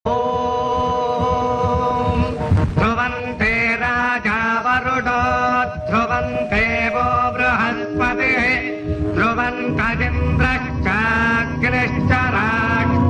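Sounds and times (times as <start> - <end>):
mantra chanting: 0.1 - 13.0.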